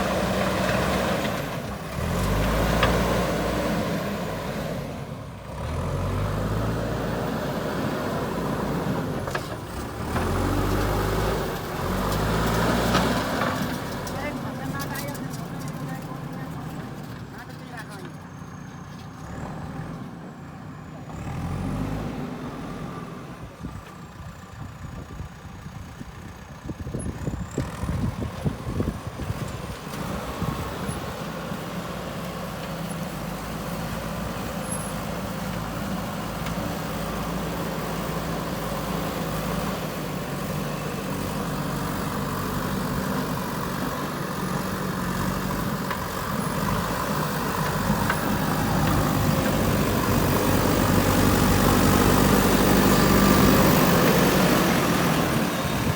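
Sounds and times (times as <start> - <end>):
diesel engine under load: 0.0 - 55.9.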